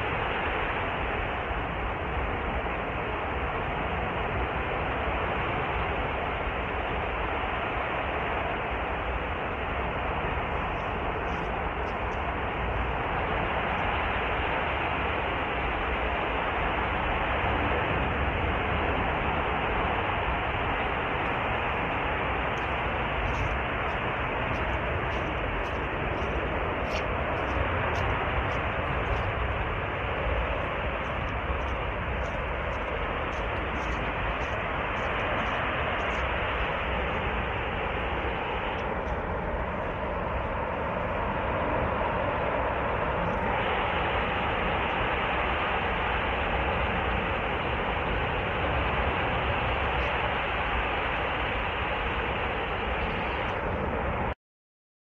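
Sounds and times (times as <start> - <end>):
gas burning with loud rushing: 0.0 - 54.4.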